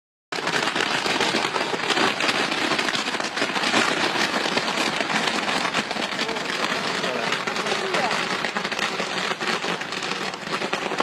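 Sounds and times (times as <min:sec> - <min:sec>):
fireworks crackling: 0:00.3 - 0:11.0.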